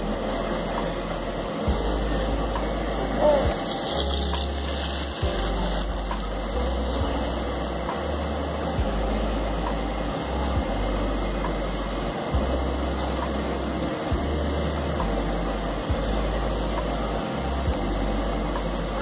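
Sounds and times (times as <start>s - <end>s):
flatbread sizzling in fat: 0.0s - 19.0s
low hum: 0.0s - 19.0s.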